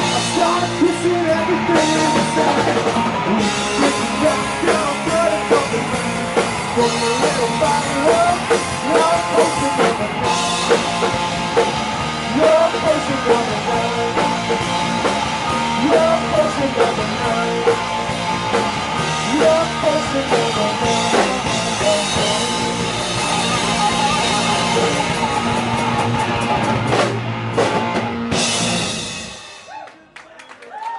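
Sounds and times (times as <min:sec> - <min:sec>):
rock band playing: 0:00.0 - 0:29.9.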